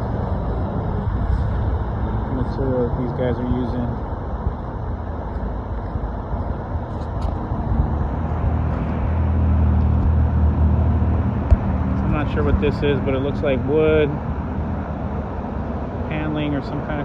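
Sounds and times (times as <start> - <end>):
passing vehicle engine rumble: 0.0 - 17.0
road traffic: 0.0 - 17.0.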